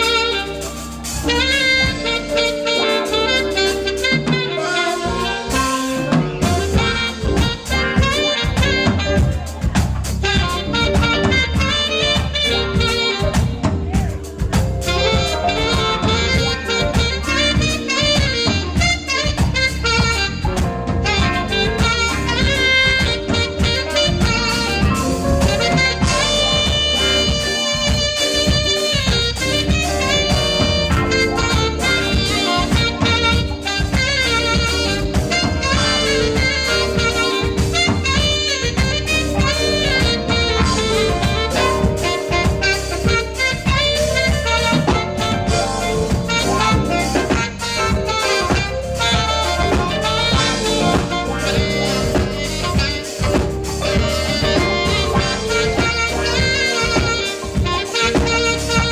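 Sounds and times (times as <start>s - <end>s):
bass: 0.0s - 58.9s
drums: 0.0s - 58.9s
saxophone jazz melody: 0.0s - 58.9s.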